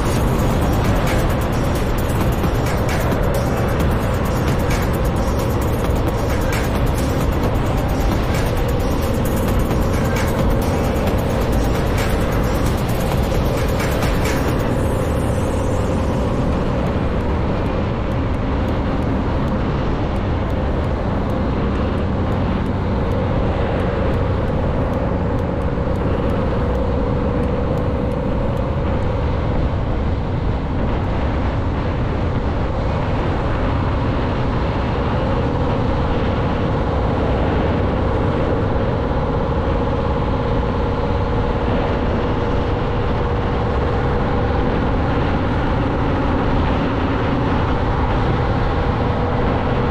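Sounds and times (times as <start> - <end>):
road noise: 0.0 - 49.9
truck engine droning: 0.0 - 49.9.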